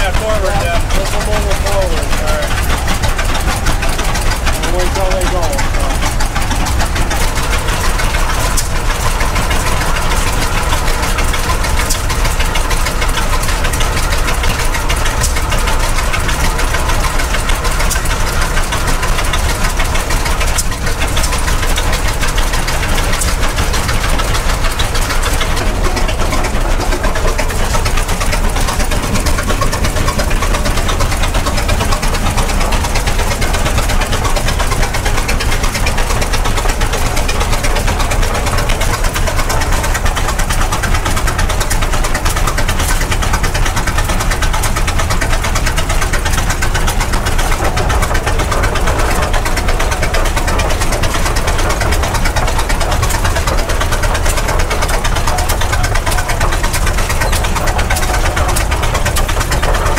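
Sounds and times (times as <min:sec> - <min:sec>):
large tractor engine running: 0:00.0 - 0:59.9.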